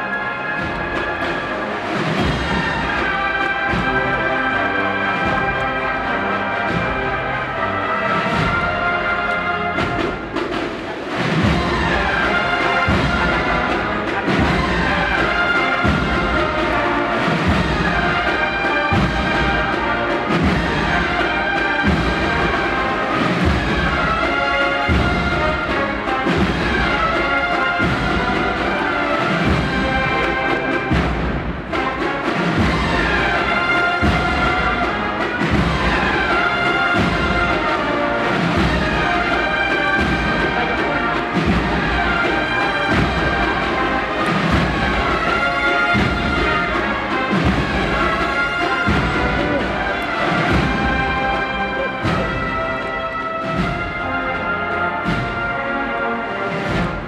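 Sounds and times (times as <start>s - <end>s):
brass band playing a march: 0.0s - 57.0s.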